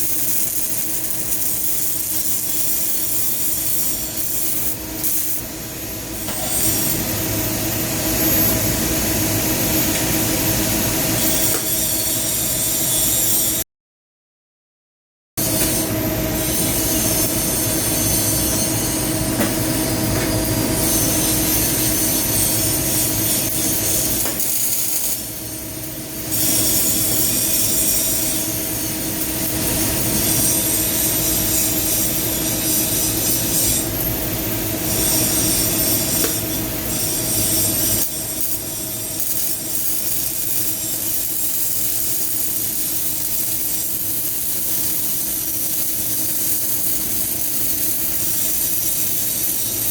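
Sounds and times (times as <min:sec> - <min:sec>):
welding arc crackling: 0:00.0 - 0:13.5, 0:15.4 - 0:49.9.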